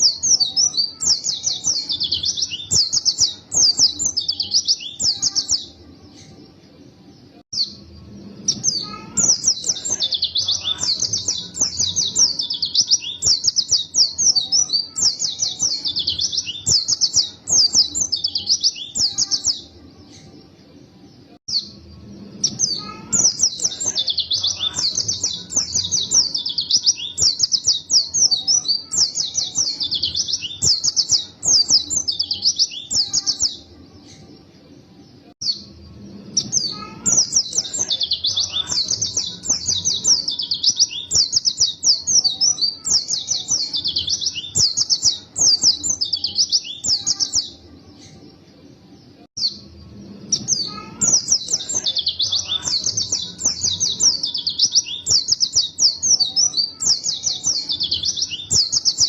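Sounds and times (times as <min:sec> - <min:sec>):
bird high twittering song: 0:00.0 - 0:06.6, 0:07.2 - 0:59.0.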